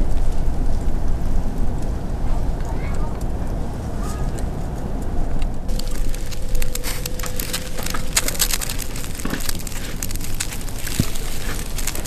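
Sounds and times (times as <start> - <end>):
firewood crackling and popping: 0.0 - 12.0
steady low rumble: 0.0 - 12.0.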